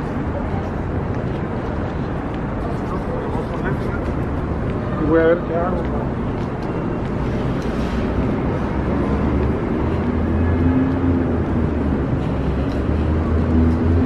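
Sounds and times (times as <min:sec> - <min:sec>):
street traffic rumble: 0:00.0 - 0:14.0
vehicle engine hum: 0:00.0 - 0:14.0.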